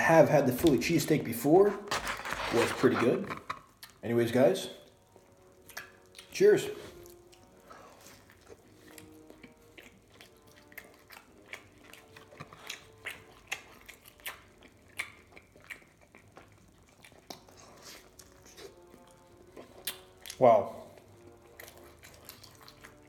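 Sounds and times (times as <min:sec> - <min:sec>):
person chewing: 0:03.4 - 0:04.0, 0:04.9 - 0:23.0.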